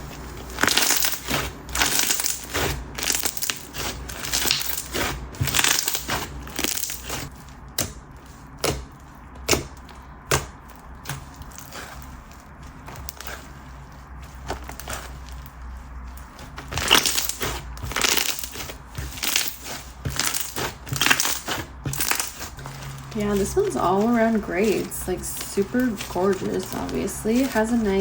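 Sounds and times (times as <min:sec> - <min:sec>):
crunchy slime being kneaded: 0:00.0 - 0:28.0.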